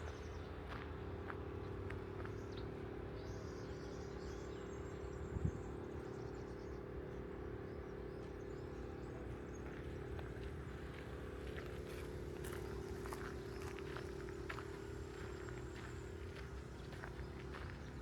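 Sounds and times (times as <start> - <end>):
low hum and rumble: 0.0 - 18.0.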